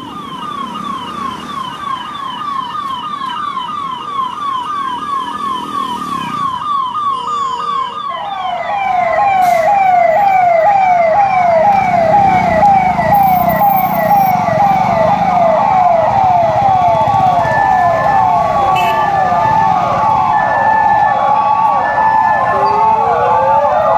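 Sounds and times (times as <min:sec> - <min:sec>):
lower-pitched siren: 0:00.0 - 0:23.9
police siren yelping: 0:00.0 - 0:23.9.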